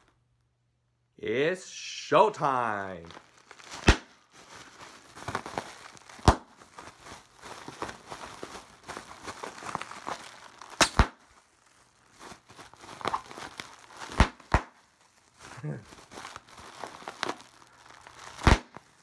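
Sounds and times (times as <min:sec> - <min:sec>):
bubble wrap crinkling: 0:02.6 - 0:19.0
bubble wrap bubbles popping: 0:03.0 - 0:19.0.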